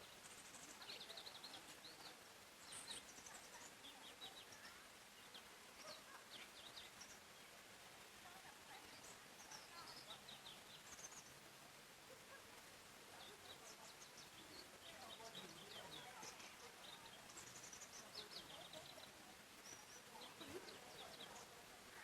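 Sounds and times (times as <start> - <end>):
soft background hiss: 0.0 - 22.0
songbirds chirping: 0.0 - 22.0.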